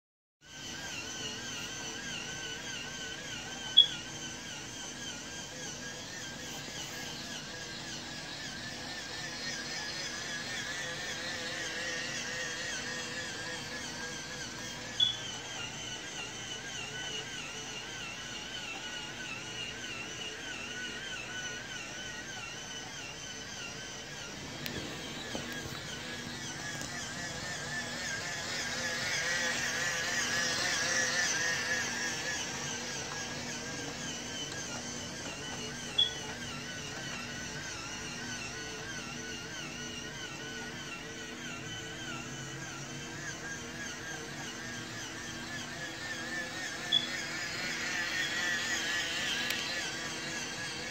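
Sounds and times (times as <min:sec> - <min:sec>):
toy train motor whine: 0:00.4 - 0:50.9.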